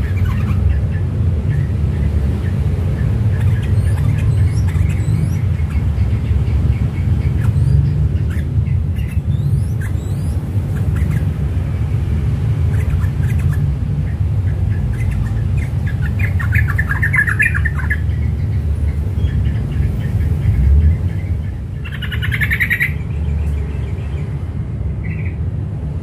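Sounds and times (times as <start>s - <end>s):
bird chattering notes: 0.0s - 24.3s
bird chirping: 0.0s - 25.5s
steady low rumble: 0.0s - 26.0s.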